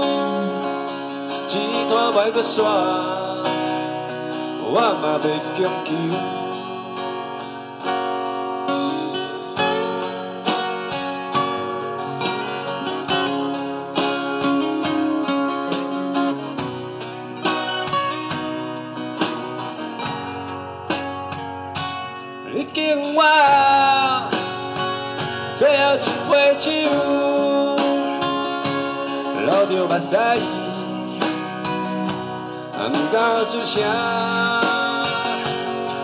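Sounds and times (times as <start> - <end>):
acoustic guitars strumming: 0.0 - 36.0
bass guitar: 0.0 - 36.0.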